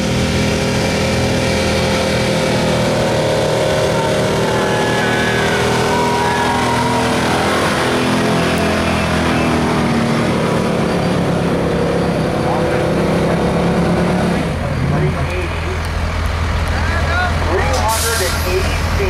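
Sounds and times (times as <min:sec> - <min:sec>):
truck engine revving under load: 0:00.0 - 0:19.0.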